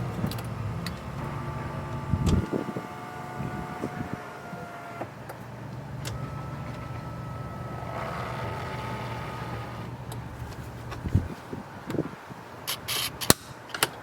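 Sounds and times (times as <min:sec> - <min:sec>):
truck engine idling: 0:00.0 - 0:12.7.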